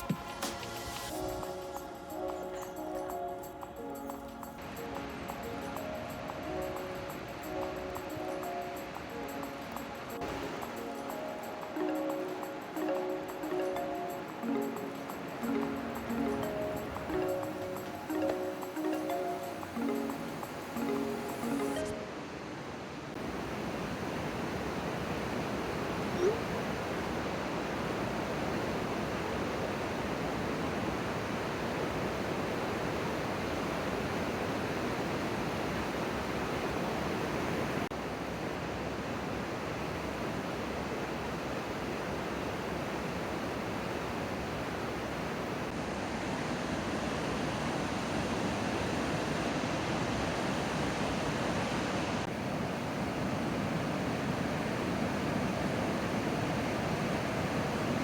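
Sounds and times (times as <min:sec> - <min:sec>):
steady rushing outdoor noise: 0:00.0 - 0:58.0.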